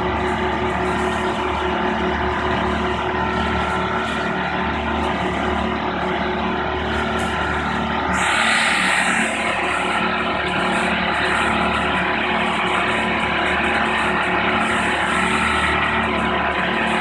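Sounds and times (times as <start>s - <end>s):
lift engine and hydraulics humming: 0.0s - 17.0s.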